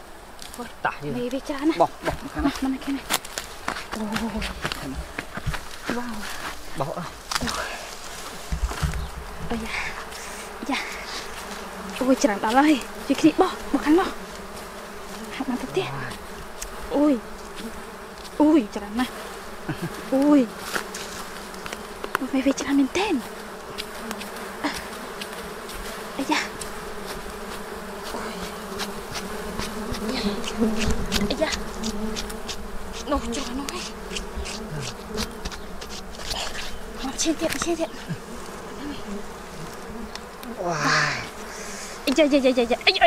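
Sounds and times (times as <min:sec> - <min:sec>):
honeybees buzzing: 0:00.0 - 0:43.0.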